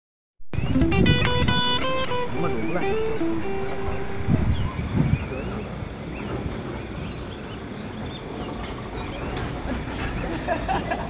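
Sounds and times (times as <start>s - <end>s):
insect chirping: 0.6s - 11.0s.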